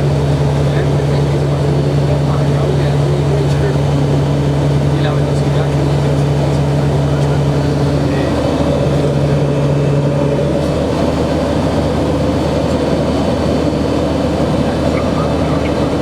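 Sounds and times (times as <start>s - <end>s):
propeller plane cabin drone: 0.0s - 16.0s.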